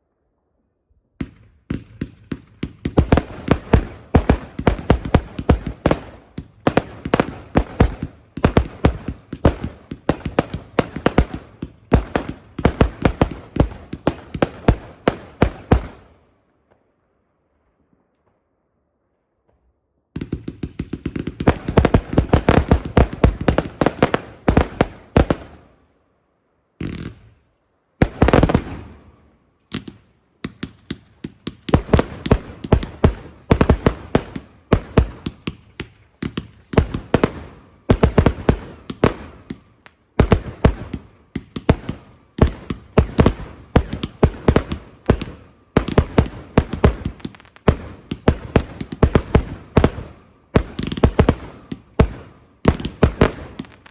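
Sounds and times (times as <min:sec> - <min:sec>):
fireworks bangs and crackling: 0:01.2 - 0:16.9, 0:19.4 - 0:25.8, 0:26.8 - 0:27.4, 0:28.0 - 0:53.9.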